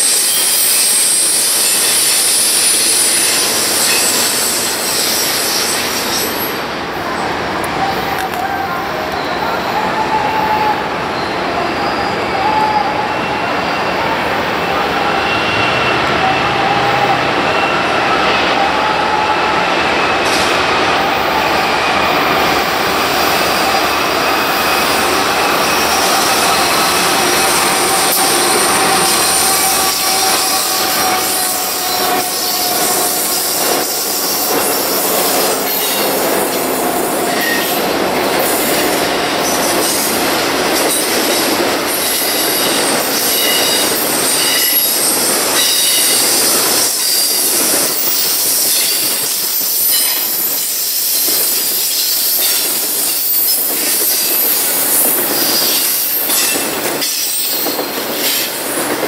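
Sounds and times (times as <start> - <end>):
train wheels squealing: 0.0 - 6.7, 8.5 - 59.0
freight train rumble: 0.0 - 59.0.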